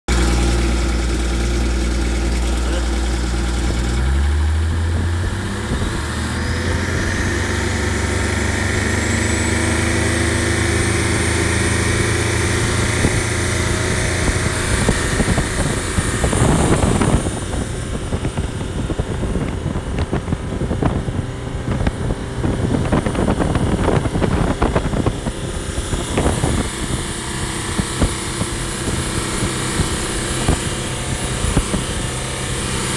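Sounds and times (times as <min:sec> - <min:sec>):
diesel engine with turbo whistle: 0:00.1 - 0:32.9
rushing wind: 0:03.5 - 0:32.9.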